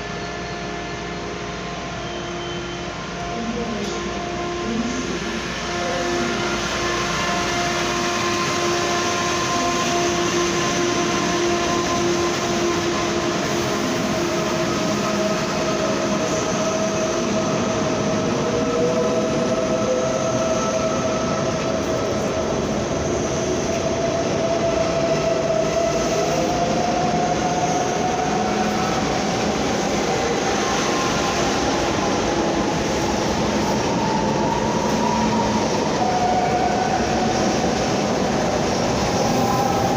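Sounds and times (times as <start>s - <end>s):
train wheels rumbling on rails: 0.0s - 39.9s
train whine rising in pitch: 0.0s - 39.9s.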